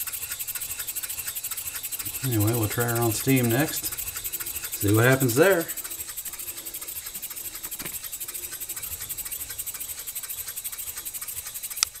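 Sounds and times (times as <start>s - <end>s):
model steam engine chattering: 0.0s - 12.0s.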